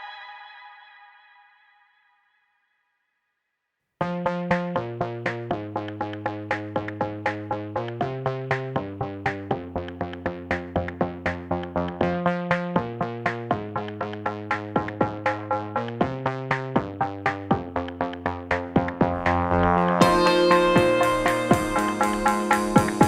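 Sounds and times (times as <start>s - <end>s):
electronic music with drum machine: 4.0s - 23.0s.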